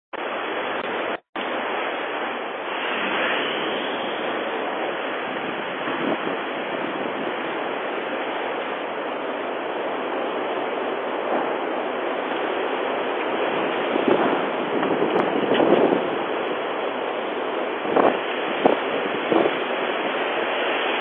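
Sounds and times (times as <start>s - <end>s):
wildfire roaring: 0.2s - 21.0s.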